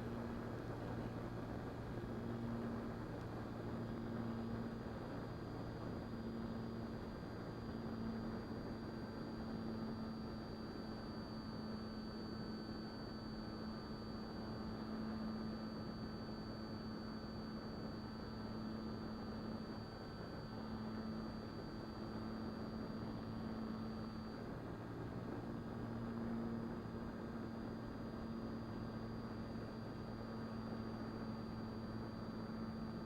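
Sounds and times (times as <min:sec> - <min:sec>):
thin high whine: 0:00.0 - 0:33.0.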